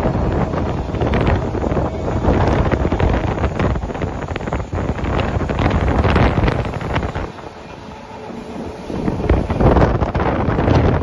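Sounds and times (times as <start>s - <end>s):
train running noise: 0.0s - 11.0s
wind buffeting microphone: 0.0s - 11.0s.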